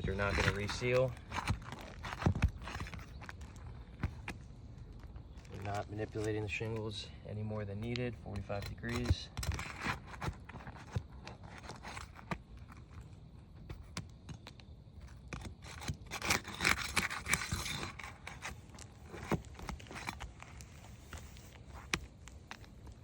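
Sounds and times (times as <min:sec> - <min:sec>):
roof shingles scraping and crackling: 0:00.0 - 0:23.0.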